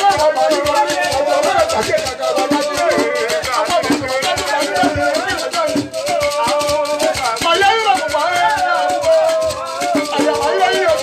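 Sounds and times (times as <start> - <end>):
man singing into microphone: 0.0 - 11.0
rattles shaking: 0.0 - 11.0.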